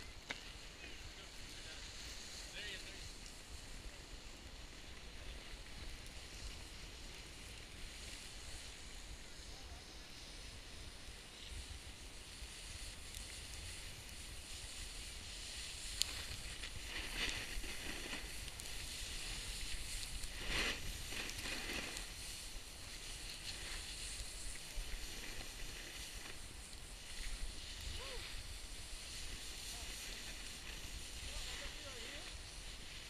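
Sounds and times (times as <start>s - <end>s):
snowboard scraping on snow: 0.0s - 33.0s
wind rumble on microphone: 0.0s - 33.0s.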